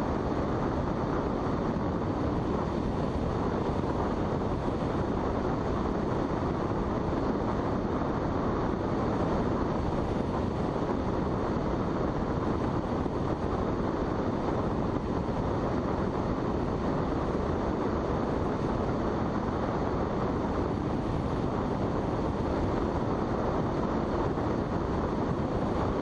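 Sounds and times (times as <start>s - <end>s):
glider in-flight rushing noise: 0.0s - 26.0s.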